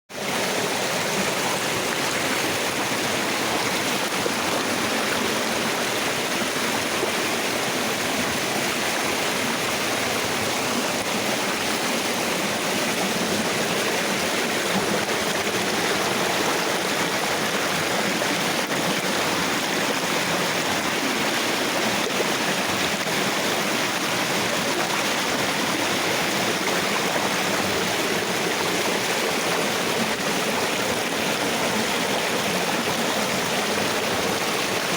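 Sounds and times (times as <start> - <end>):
water rushing over rocks: 0.1 - 34.9.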